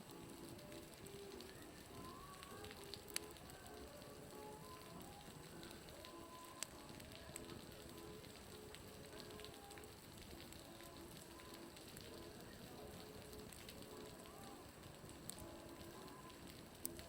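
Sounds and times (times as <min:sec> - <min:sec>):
meltwater dripping off roof: 0:00.0 - 0:17.0.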